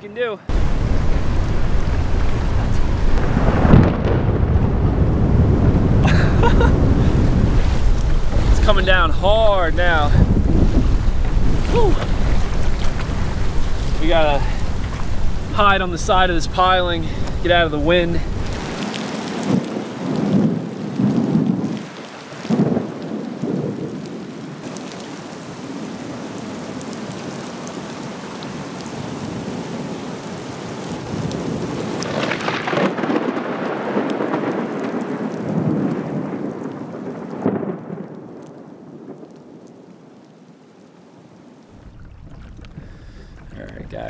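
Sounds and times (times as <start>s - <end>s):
heavy rain on river water: 0.0s - 44.0s
wind: 0.0s - 44.0s.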